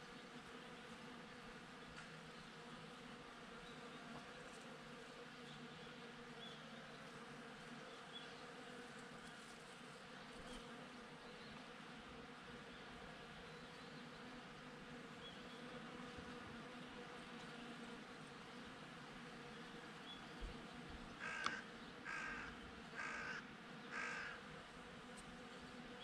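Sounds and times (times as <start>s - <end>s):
bees buzzing: 0.1s - 26.0s.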